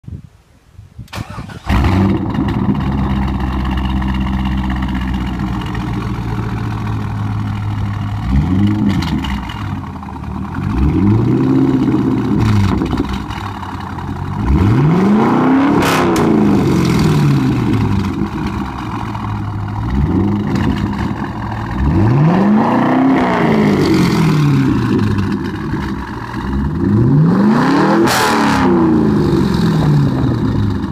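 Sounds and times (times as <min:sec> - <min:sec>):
car engine revving: 0:01.3 - 0:30.9.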